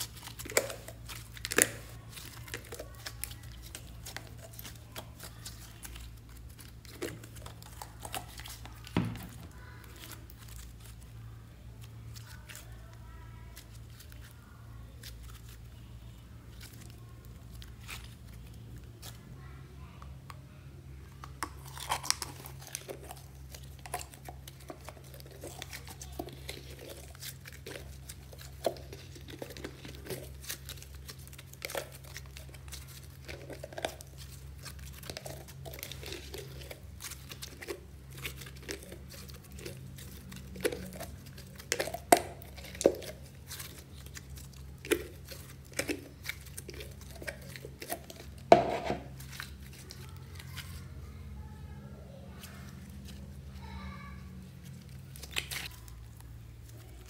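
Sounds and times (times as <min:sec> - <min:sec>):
slime squishing: 0:00.0 - 0:57.0.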